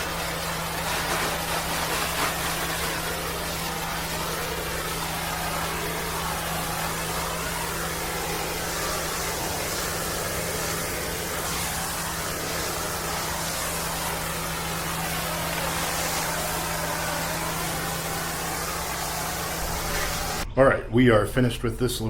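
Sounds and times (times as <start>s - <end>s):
pressure washer engine running: 0.0s - 20.5s
water spray hissing: 0.0s - 20.5s.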